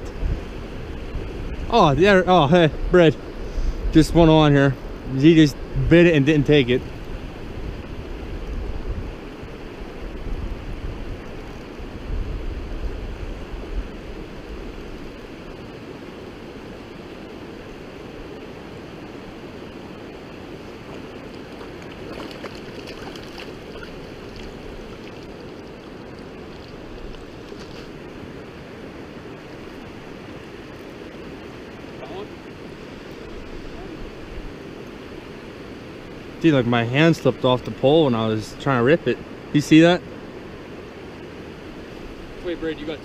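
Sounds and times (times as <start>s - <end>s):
mountain river flowing: 0.0s - 43.0s
wind rumbling on microphone: 0.0s - 43.0s.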